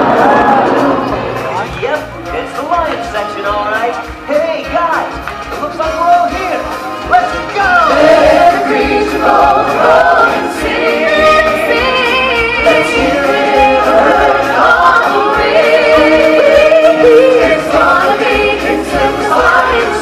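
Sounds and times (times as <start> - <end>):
chorus singing with music: 0.0 - 5.1, 6.2 - 20.0.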